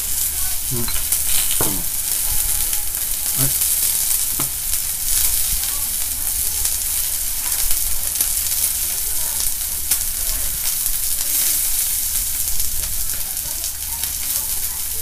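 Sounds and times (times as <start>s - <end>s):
food sizzling on hot plate: 0.0s - 15.0s.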